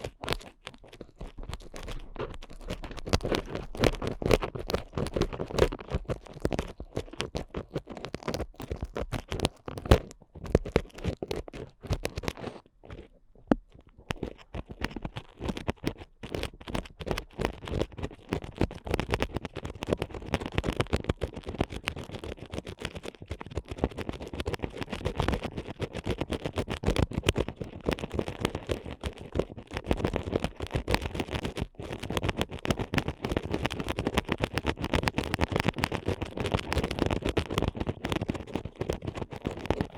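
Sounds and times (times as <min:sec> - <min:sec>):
ear picks scratching: 0:00.0 - 0:39.9.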